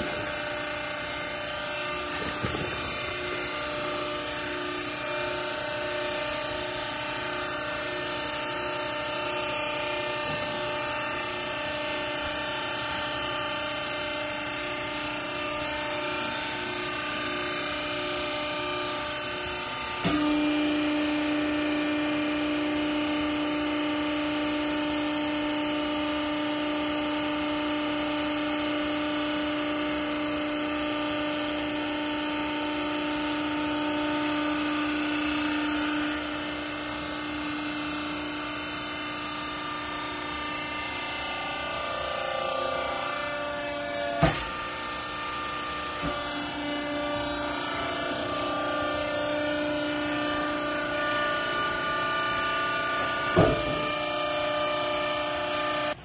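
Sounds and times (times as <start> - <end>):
hydraulic pump motor humming: 0.0 - 56.0.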